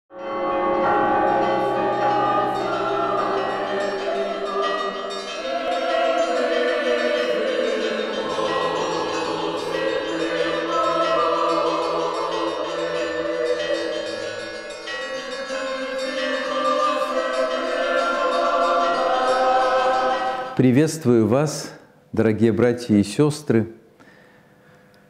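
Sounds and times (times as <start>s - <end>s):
bell-like chimes: 0.1s - 20.6s
sustained chords: 0.1s - 20.8s.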